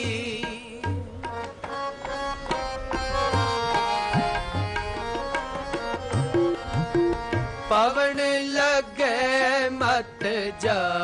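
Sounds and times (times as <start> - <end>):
harmonium melody: 0.0 - 11.0
tabla playing rhythm: 0.0 - 11.0.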